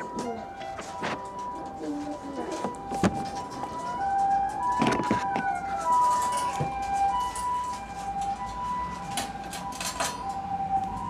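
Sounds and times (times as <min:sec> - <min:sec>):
two-tone ambulance siren: 0:00.0 - 0:11.0.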